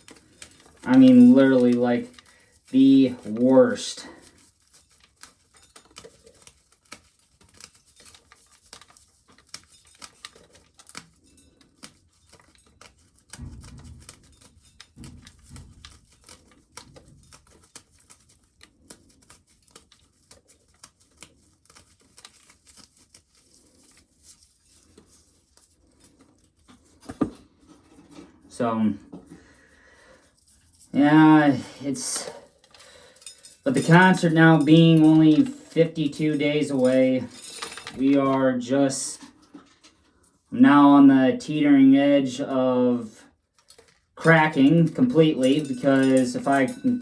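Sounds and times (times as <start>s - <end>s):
corn kernels clicking and crackling: 0.0s - 47.0s.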